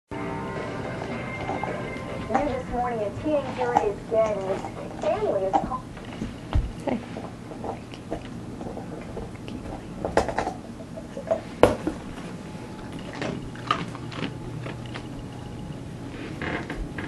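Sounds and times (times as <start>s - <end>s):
dog gnawing on a bone: 1.0s - 15.8s.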